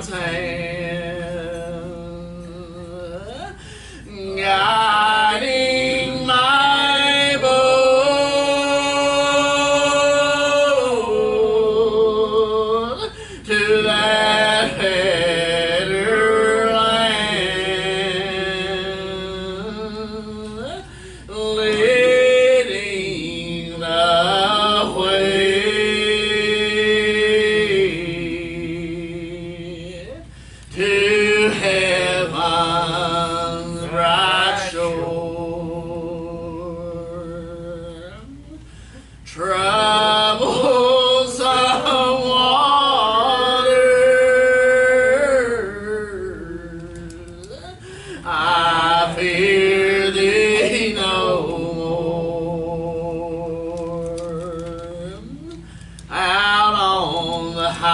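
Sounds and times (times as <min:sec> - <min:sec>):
person singing a hymn: 0:00.0 - 0:38.6, 0:39.3 - 0:57.9.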